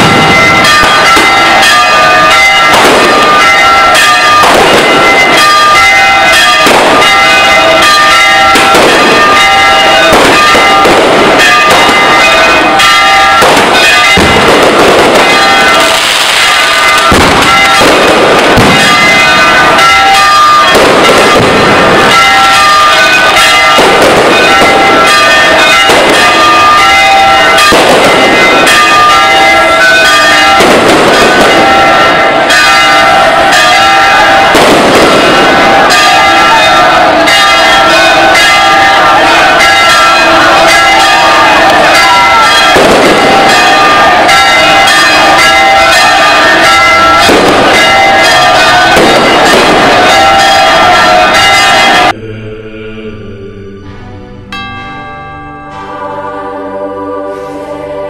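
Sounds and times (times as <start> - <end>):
church bells ringing: 0.0 - 52.2, 53.9 - 58.0
fireworks banging: 0.0 - 52.2.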